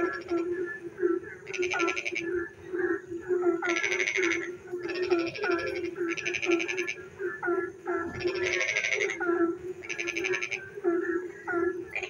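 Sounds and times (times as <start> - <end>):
frogs croaking: 0.0 - 12.0.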